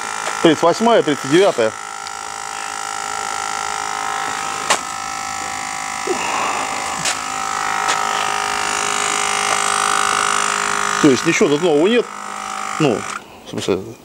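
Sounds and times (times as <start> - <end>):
small motor buzzing hum: 0.0 - 14.0.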